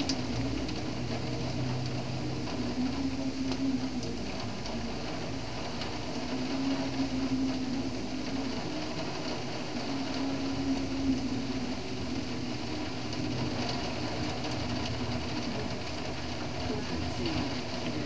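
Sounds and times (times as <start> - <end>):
low vehicle hum: 0.0 - 18.0
steady rain: 0.0 - 18.0.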